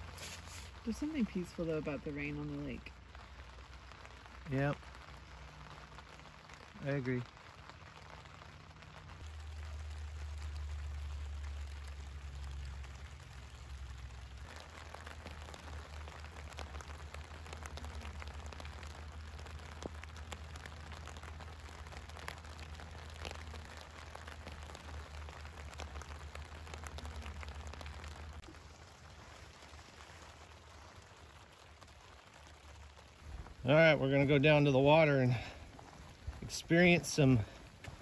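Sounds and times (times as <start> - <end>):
rain on a tent: 0.0 - 38.0
raindrops ticking: 0.0 - 38.0.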